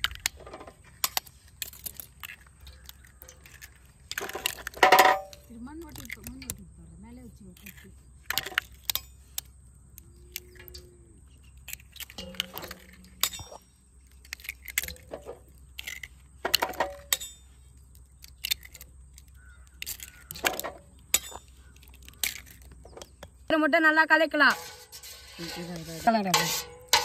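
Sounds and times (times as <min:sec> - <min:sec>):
eggs cracking on a steel bowl: 0:00.0 - 0:06.7, 0:07.4 - 0:23.5.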